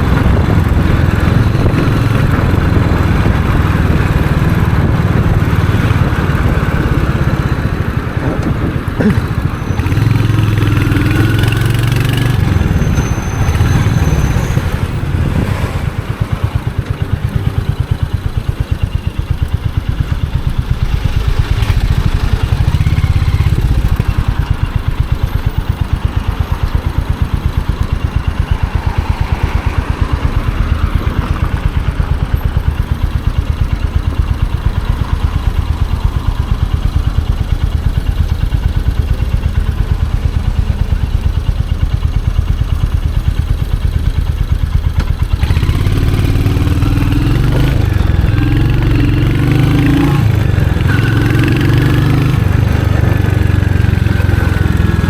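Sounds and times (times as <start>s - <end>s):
motorcycle engine idling: 0.0s - 55.0s
motorcycle revving pulling away: 0.0s - 55.0s.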